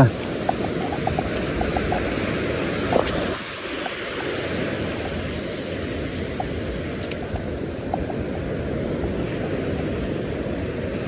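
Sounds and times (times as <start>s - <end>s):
surf washing on beach: 0.0s - 11.0s
wind on microphone: 0.0s - 11.0s.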